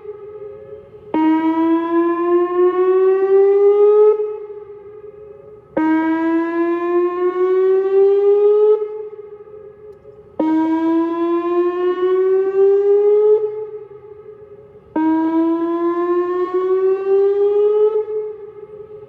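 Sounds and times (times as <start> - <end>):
electronic warning siren: 0.0 - 19.0.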